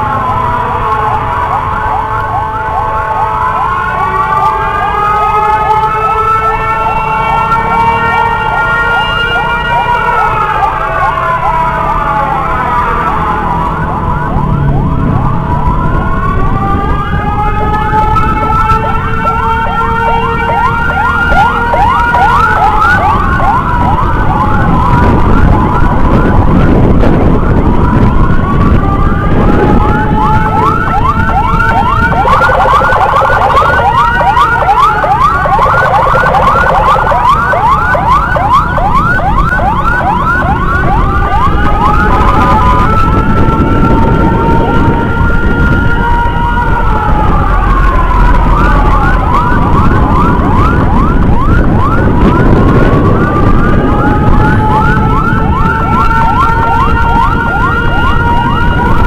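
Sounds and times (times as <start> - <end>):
siren wailing: 0.0 - 59.0
siren yelping: 0.0 - 59.0.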